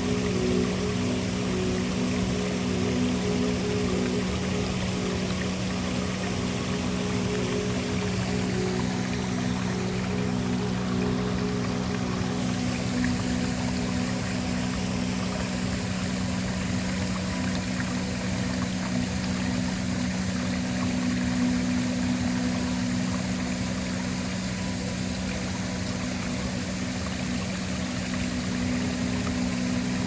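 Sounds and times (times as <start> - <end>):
ambient background music drone: 0.0 - 30.0
waterfall rushing: 0.0 - 30.0.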